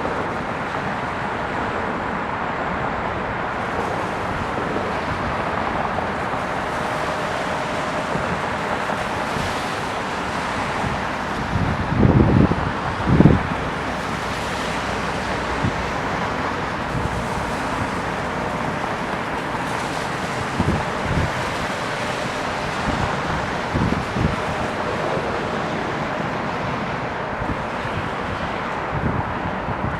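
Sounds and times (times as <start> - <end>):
wind gusts buffeting microphone: 0.0 - 29.9
wind rushing on microphone: 0.0 - 29.9.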